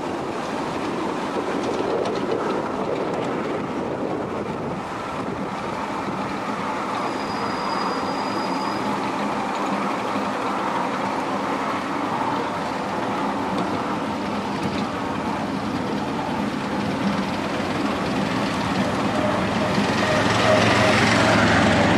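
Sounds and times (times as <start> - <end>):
miniature train rumbling on track: 0.0 - 21.9.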